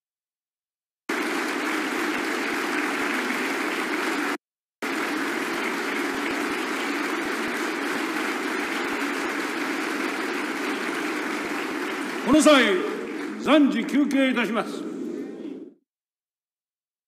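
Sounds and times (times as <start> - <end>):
crowd applauding: 1.1 - 14.9.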